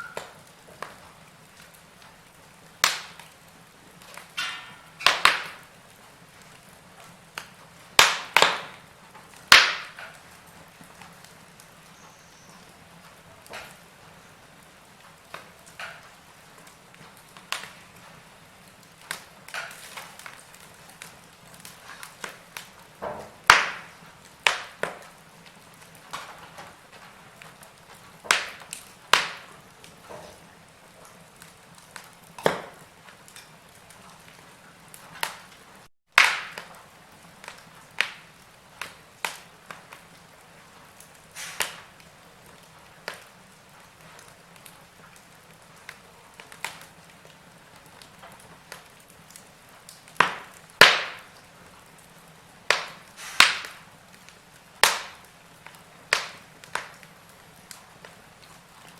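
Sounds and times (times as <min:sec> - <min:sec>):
fire hissing: 0:00.0 - 0:58.9
loud fire snaps: 0:00.0 - 0:58.9
wood fire crackling: 0:00.0 - 0:58.9.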